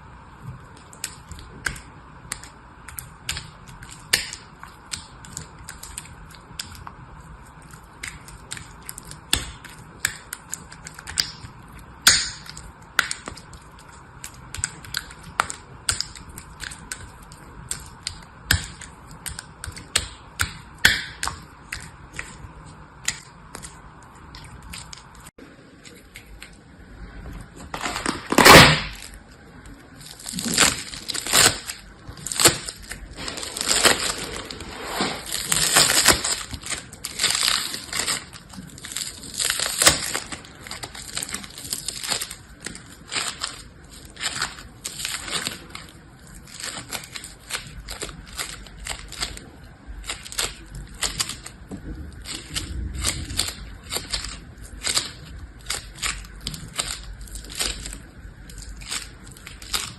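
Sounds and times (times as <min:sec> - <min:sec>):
crunching and crackling: 0:00.0 - 0:59.9
faint hum: 0:00.0 - 0:59.9.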